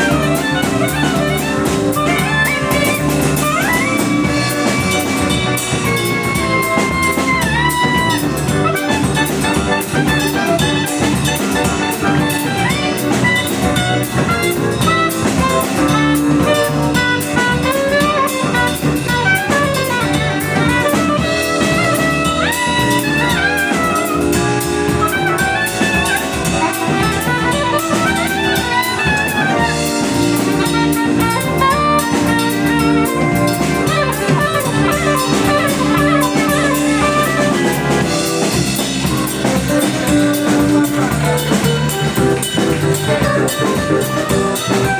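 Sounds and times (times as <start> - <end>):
drum kit: 0.0 - 44.9
jazz accompaniment: 0.0 - 44.9
melodic jazz solo: 0.0 - 44.9.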